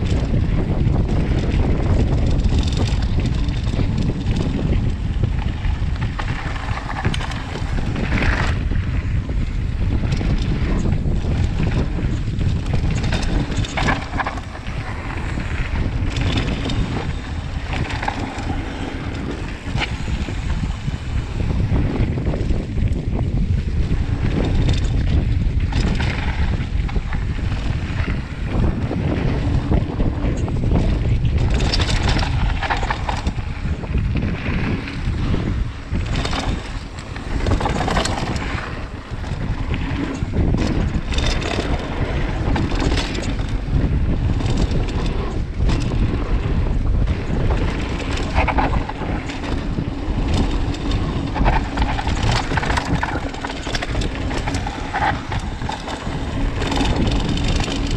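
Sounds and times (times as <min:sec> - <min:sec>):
bike rattling and knocking: 0:00.0 - 0:57.9
wind rumbling on microphone: 0:00.0 - 0:57.9.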